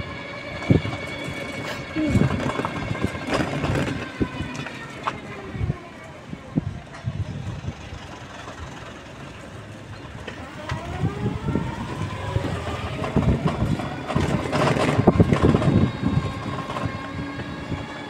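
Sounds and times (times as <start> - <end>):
small vehicle engine running: 0.0 - 18.0
wind buffeting microphone: 0.0 - 18.0.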